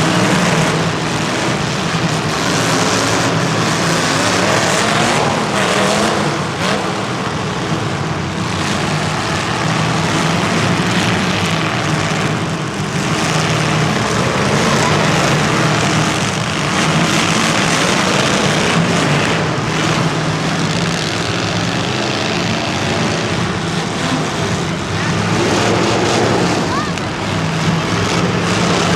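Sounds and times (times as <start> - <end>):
racing engines running: 0.0 - 28.9.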